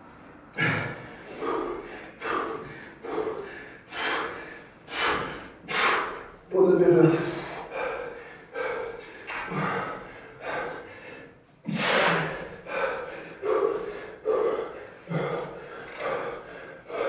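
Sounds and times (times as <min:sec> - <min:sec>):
man breathing heavily: 0:00.1 - 0:17.0.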